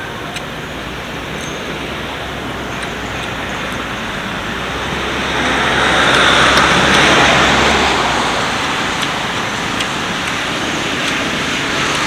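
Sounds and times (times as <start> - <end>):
road vehicle passing: 0.0 - 12.0.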